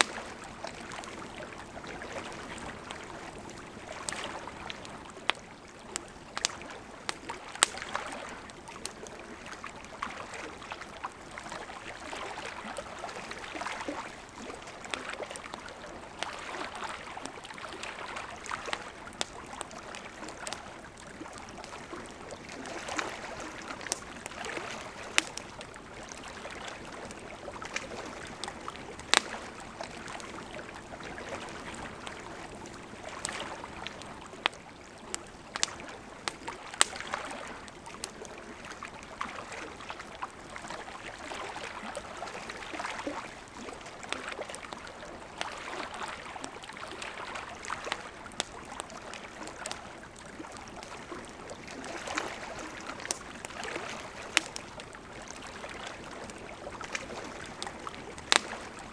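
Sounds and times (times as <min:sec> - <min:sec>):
campfire crackles and pops: 0:00.0 - 0:58.9.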